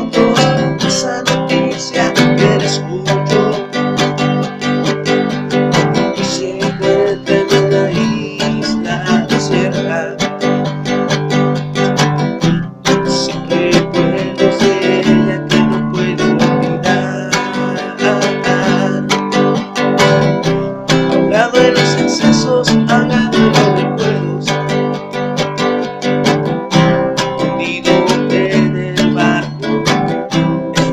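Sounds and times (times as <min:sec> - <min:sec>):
acoustic guitar strumming: 0:00.0 - 0:30.9.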